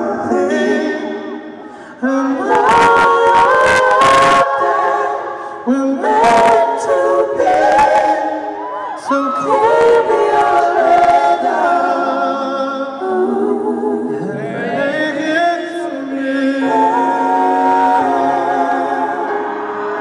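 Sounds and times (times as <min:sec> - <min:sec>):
a cappella vocal harmony: 0:00.0 - 0:20.0.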